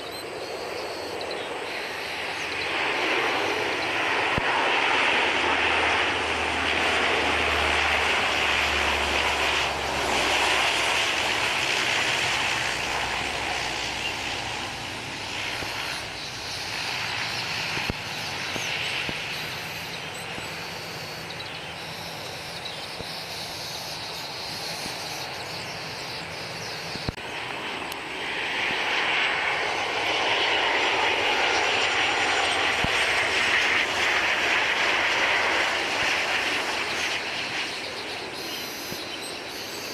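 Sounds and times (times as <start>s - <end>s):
jet engines rushing: 0.0s - 39.9s
turboprop engines droning: 0.0s - 39.9s.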